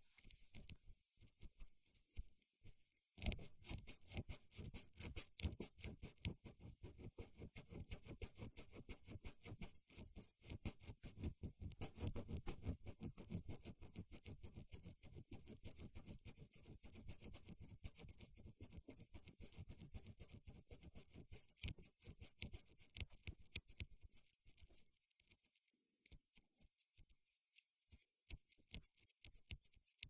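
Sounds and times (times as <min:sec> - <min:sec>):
taps and scratches on microphone: 0:00.0 - 0:30.0.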